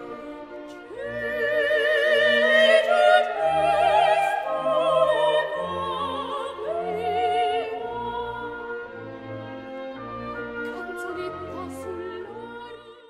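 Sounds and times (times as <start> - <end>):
orchestral accompaniment: 0.0 - 13.0.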